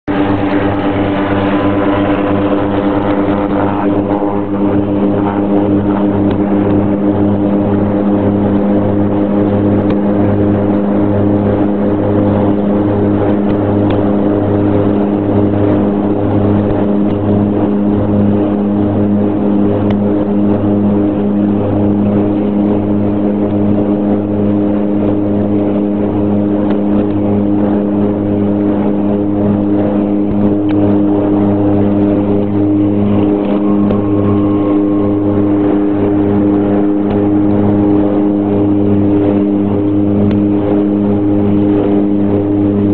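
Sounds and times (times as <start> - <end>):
turboprop engines at high power: 0.0 - 42.9.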